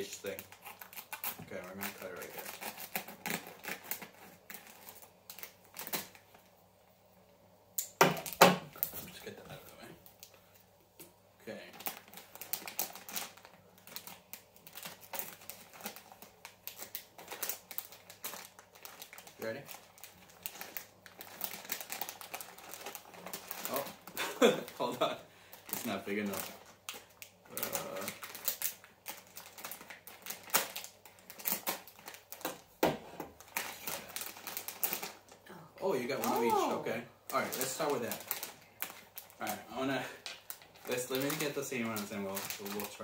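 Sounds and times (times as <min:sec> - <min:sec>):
plastic bag crinkling: 0:00.0 - 0:06.5, 0:11.5 - 0:43.0.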